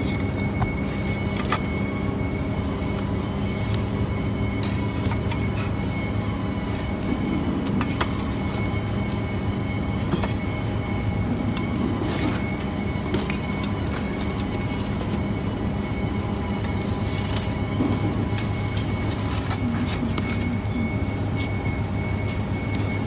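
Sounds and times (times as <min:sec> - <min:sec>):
machinery hum: 0:00.0 - 0:23.0.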